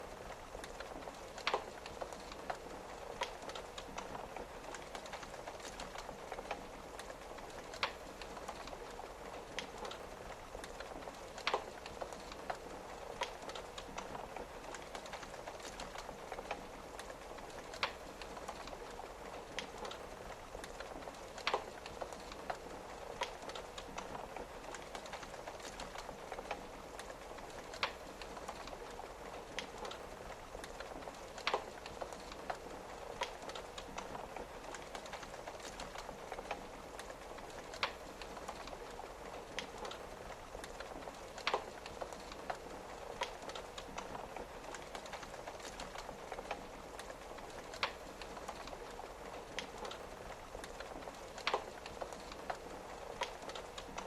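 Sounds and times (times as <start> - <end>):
rain on a window: 0.0 - 54.0
wood fire crackling: 0.0 - 54.0.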